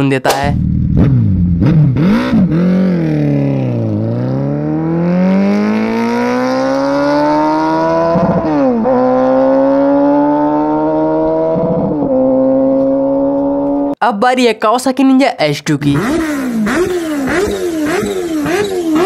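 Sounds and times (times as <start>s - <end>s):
motorcycle accelerating hard: 0.6s - 14.0s, 15.9s - 19.0s.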